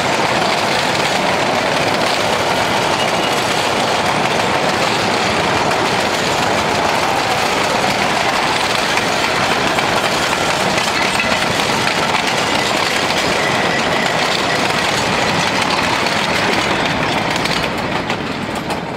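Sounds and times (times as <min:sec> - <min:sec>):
train wheels clattering on track: 0:00.0 - 0:18.9.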